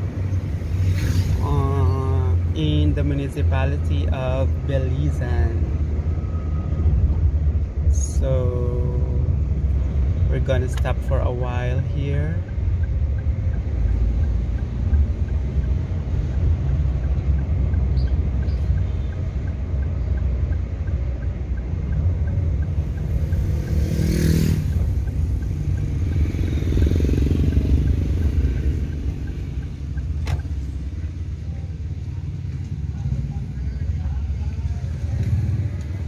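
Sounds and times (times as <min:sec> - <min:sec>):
car engine and road rumble: 0:00.0 - 0:36.0
passing vehicle rush: 0:00.0 - 0:36.0.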